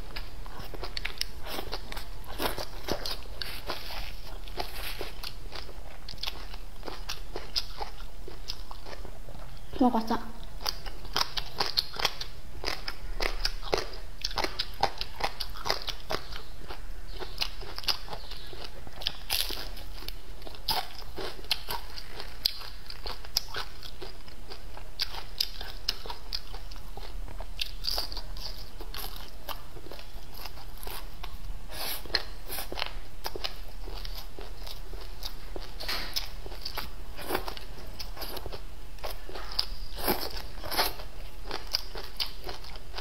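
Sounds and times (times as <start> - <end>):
chewing and crunching: 0.1 - 9.7, 10.4 - 43.0.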